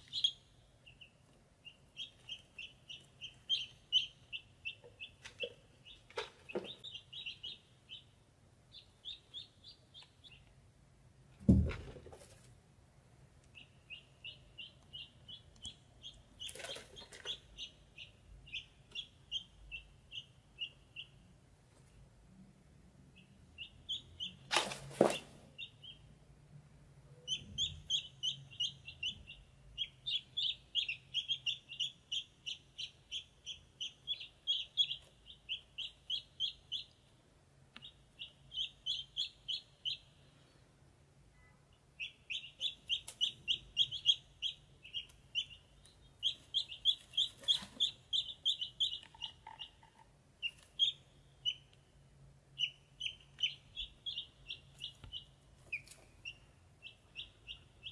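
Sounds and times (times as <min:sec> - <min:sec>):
ducklings peeping: 0:00.0 - 0:10.7, 0:13.4 - 0:21.4, 0:23.1 - 0:26.2, 0:27.0 - 0:40.4, 0:41.4 - 0:57.9.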